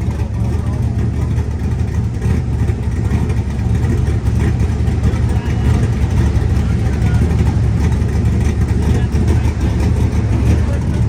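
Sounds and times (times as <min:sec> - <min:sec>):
vehicle engine low rumble: 0:00.0 - 0:11.0.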